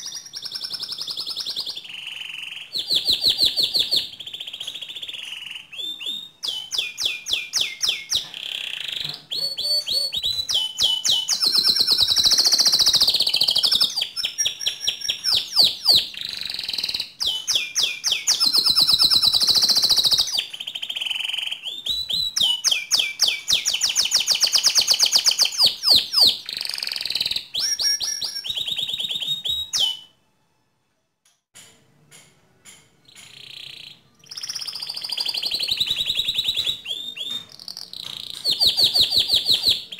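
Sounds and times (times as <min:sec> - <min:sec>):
canary singing trills: 0:00.0 - 0:30.2, 0:33.0 - 0:39.9.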